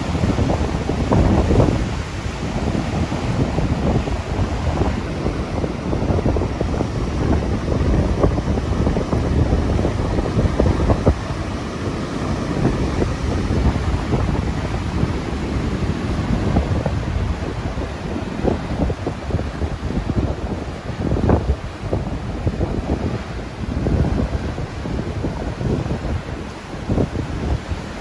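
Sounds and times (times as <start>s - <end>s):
heavy surf crashing on rocks: 0.0s - 28.0s
strong wind buffeting microphone: 0.0s - 28.0s.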